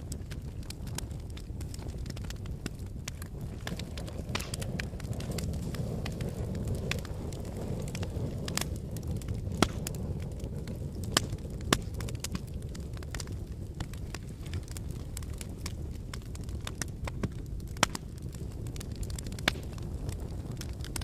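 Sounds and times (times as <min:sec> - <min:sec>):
low rumble of flames: 0:00.0 - 0:21.0
wood fire crackling and popping: 0:00.0 - 0:21.0.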